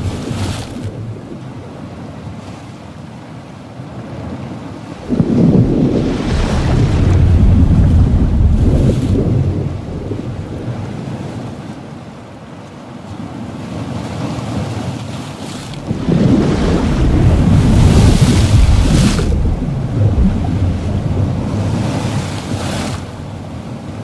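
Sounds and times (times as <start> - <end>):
ocean water surging: 0.0 - 24.0.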